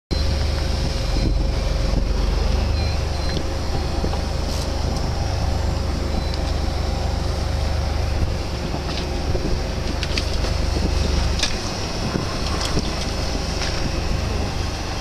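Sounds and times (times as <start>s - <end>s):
boat engine droning: 0.1s - 15.0s.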